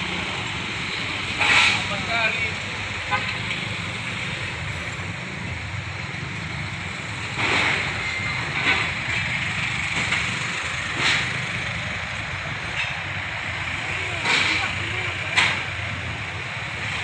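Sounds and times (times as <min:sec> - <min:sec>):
cars passing slowly: 0:00.0 - 0:17.0
tyres on road: 0:00.0 - 0:17.0.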